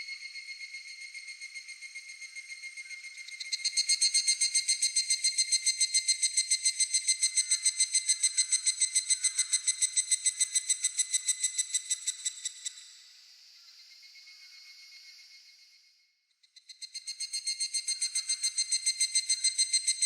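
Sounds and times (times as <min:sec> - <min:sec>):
distant cicada calling: 0:00.0 - 0:15.8, 0:16.5 - 0:20.0
cicada calling: 0:00.1 - 0:12.8, 0:16.6 - 0:20.0.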